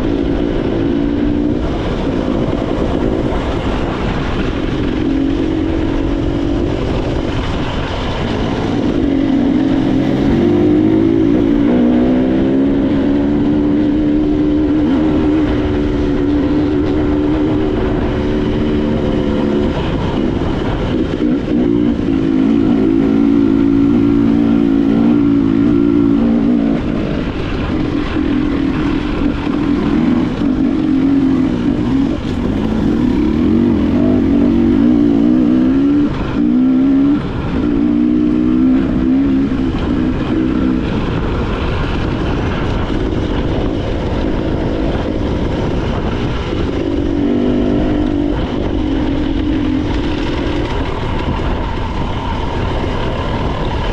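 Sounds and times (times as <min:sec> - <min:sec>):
motorcycle engine running: 0:00.0 - 0:53.9
wind and road noise: 0:00.0 - 0:53.9.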